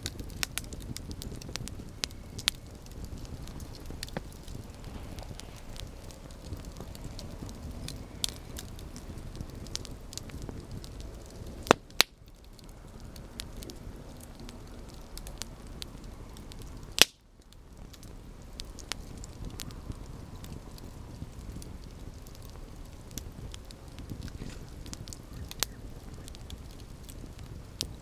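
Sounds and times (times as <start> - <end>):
burning wood popping: 0.0 - 28.0
campfire flames rumbling: 0.0 - 28.0
fire crackling: 0.0 - 28.0.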